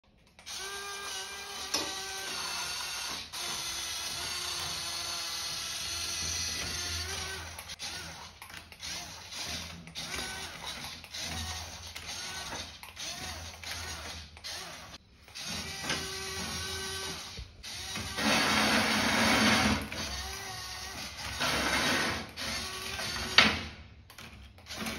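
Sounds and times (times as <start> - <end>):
toy motor and gearbox whirring: 0.2 - 23.5, 24.1 - 24.9.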